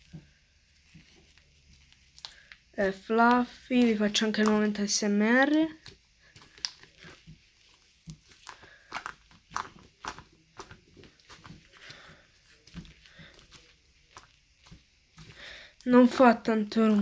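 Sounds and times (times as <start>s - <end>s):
slime squishing and popping: 2.0s - 17.0s.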